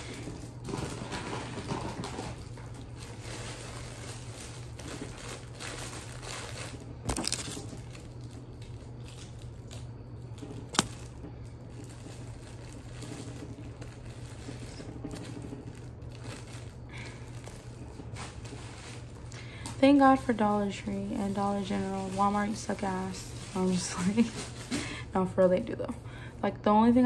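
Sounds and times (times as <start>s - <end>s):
plastic wrappers crinkling: 0.0s - 25.1s.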